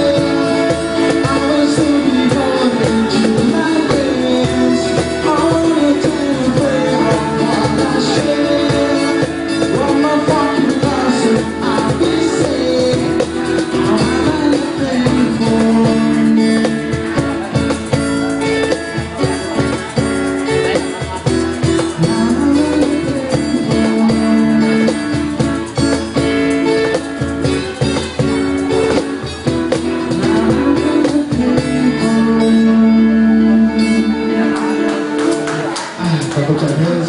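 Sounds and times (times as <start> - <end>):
instrumental guitar music: 0.0 - 37.0.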